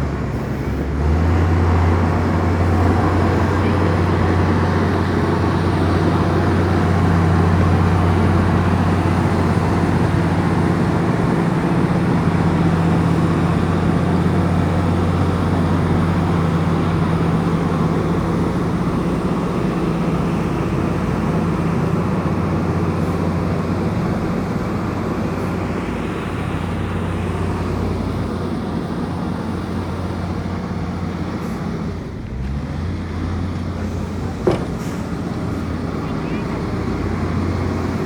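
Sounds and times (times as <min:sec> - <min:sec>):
bulldozer diesel engine droning: 0:00.0 - 0:38.0.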